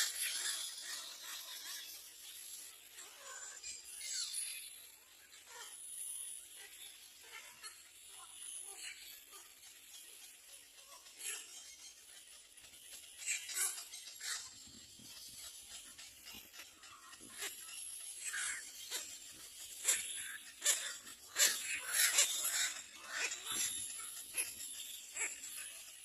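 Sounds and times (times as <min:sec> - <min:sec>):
young birds squeaking: 0:00.0 - 0:26.0.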